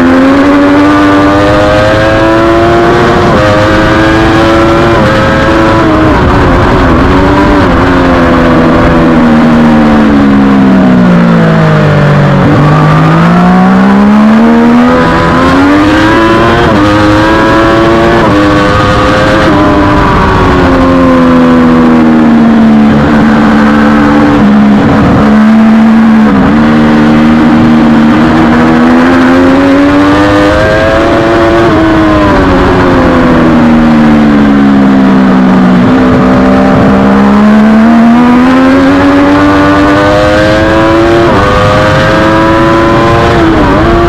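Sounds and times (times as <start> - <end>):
motorcycle engine at high revs: 0.0 - 44.0.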